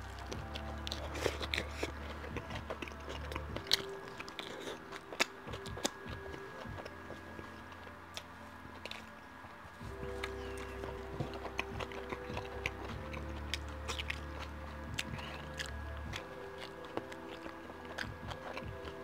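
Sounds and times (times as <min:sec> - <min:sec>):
wet chewing of burger: 0:00.0 - 0:19.0.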